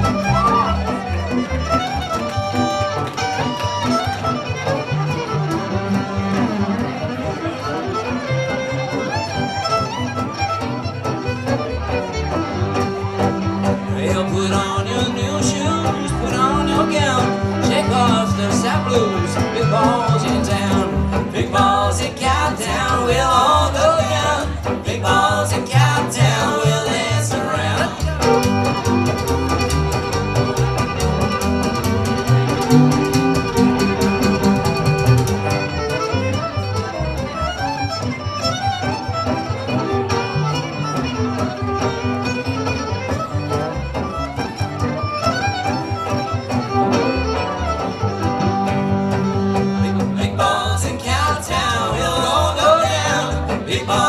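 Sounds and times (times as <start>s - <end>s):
fiddle: 0.0s - 54.0s
rhythm guitar: 0.0s - 54.0s
slapped upright bass: 0.0s - 54.0s.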